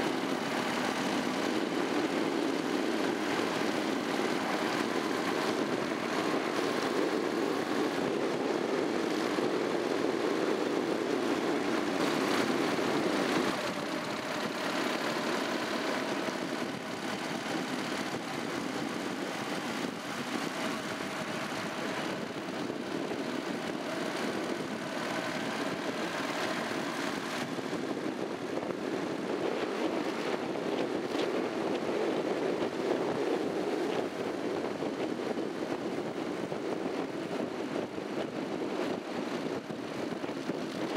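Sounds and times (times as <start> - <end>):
motorcycle engine running: 0.0 - 34.9
wind and road rush: 0.0 - 40.9.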